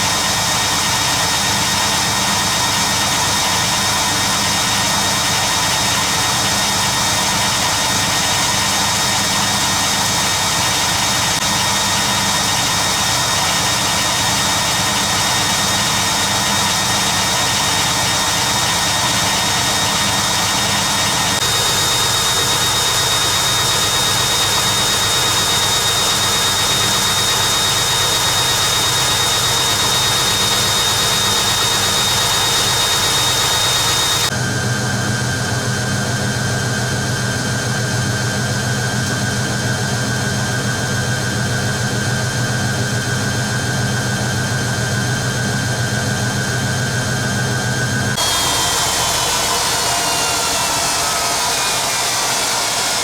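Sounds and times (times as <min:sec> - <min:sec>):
washing machine spinning: 0:00.0 - 0:53.0.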